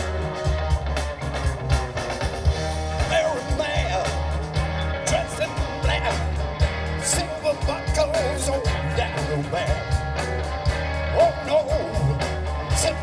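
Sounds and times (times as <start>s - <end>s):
drums: 0.0s - 13.0s
pitch-bending lead guitar line: 0.0s - 13.0s
steady bass: 0.0s - 13.0s.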